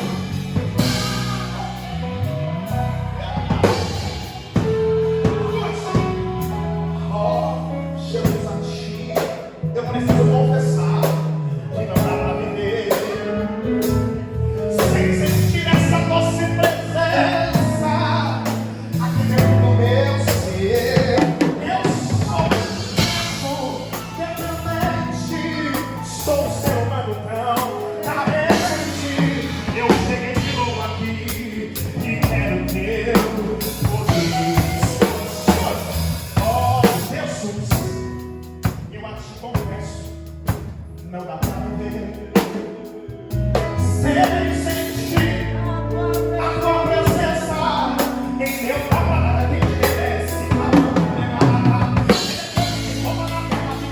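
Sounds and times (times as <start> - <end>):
person singing: 0.0 - 38.1, 41.2 - 53.9
gospel band playing: 0.0 - 53.9.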